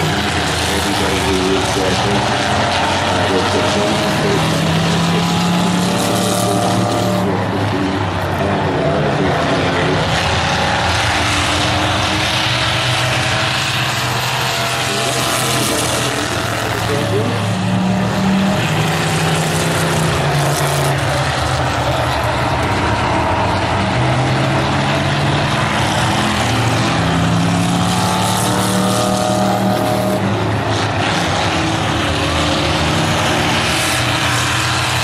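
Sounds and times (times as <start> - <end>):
race car engines running hard: 0.0 - 35.0.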